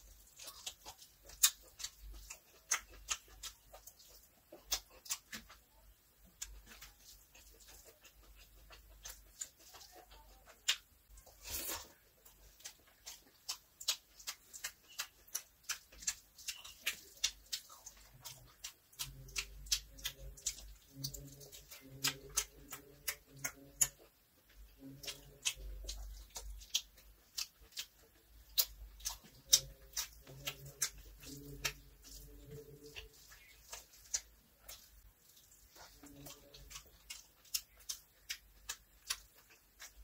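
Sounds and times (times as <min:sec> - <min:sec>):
lip-smacking and chewing: 0:00.0 - 0:40.0.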